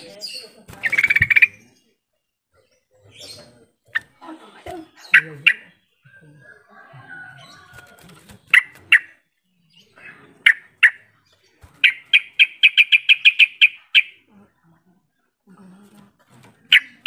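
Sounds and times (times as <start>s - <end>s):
bird chirping: 0.0s - 14.3s, 16.5s - 17.0s.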